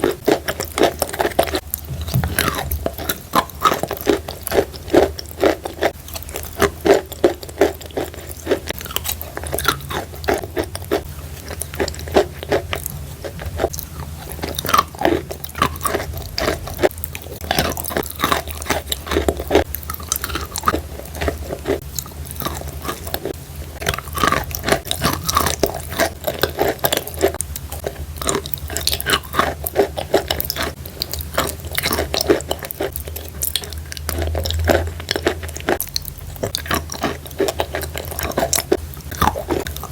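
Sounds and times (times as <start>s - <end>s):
chewing crunchy chalk: 0.0s - 39.9s
steady low hum: 0.0s - 39.9s.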